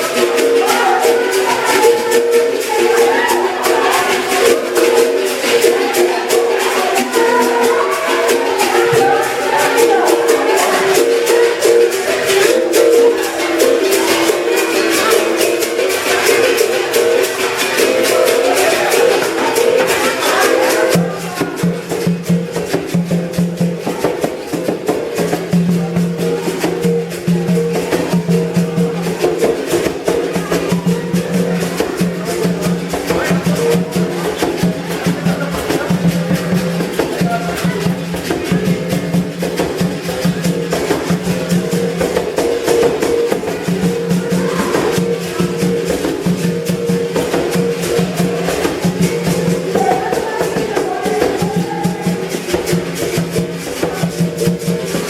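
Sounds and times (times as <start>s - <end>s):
basket rattle shaken: 0.0s - 55.0s.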